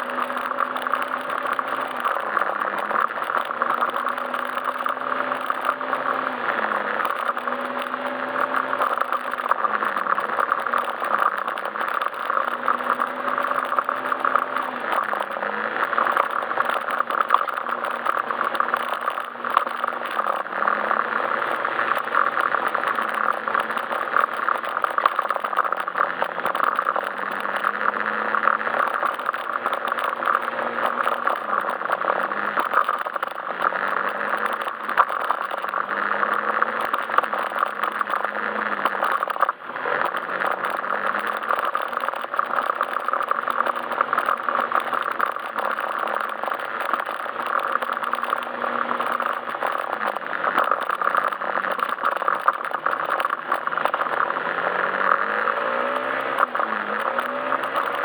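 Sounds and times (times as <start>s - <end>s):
road noise: 0.0s - 58.0s
scooter engine running: 0.0s - 58.0s.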